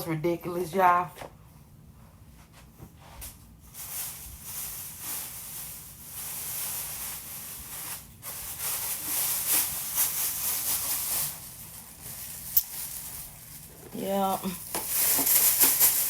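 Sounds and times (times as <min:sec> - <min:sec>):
plastic bag rustling: 0:03.0 - 0:16.0.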